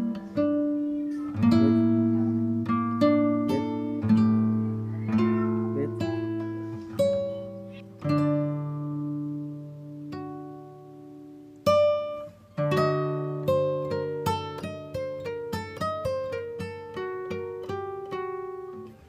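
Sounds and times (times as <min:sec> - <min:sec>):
slow plucked-string melody: 0:00.0 - 0:19.0.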